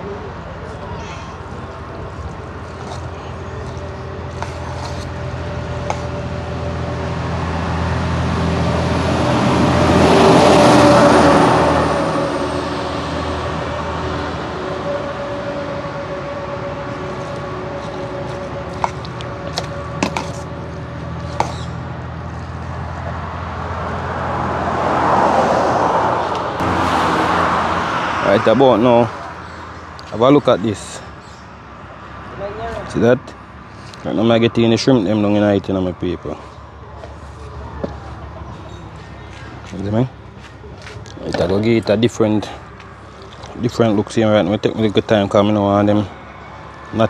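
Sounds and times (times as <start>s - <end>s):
vehicle passing: 0.0s - 47.0s.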